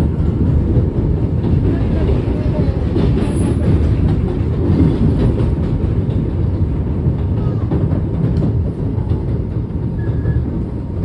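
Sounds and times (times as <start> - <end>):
subway train rumbling: 0.0 - 11.0
wheels clicking over rails: 0.0 - 11.0.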